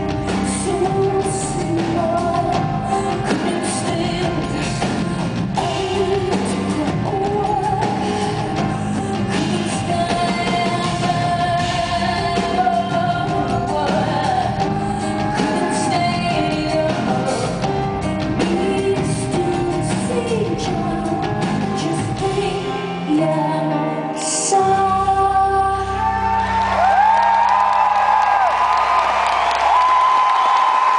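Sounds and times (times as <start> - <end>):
woman singing lead: 0.0 - 28.1
live band playing: 0.0 - 30.9.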